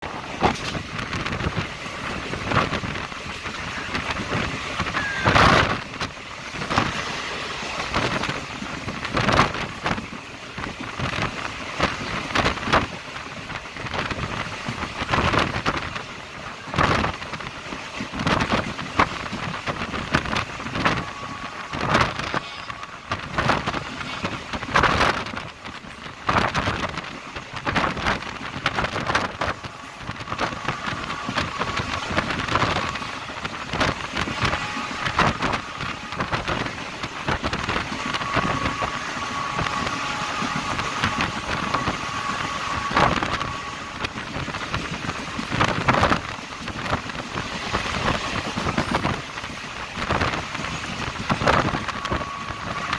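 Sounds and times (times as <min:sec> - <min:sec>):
train running at speed: 0:00.0 - 0:52.9
wind striking microphone: 0:00.0 - 0:52.9.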